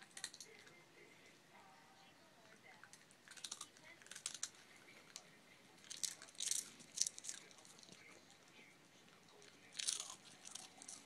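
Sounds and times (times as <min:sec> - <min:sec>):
dog chewing and crunching: 0:00.0 - 0:00.8, 0:02.8 - 0:11.0.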